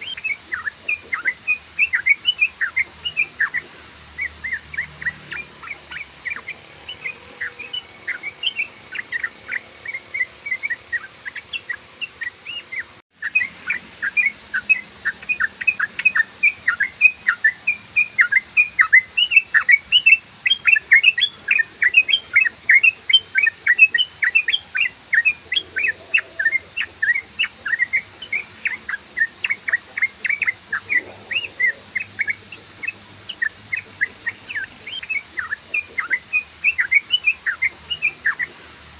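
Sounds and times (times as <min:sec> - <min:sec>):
bird singing rapid chirps: 0:00.0 - 0:38.6.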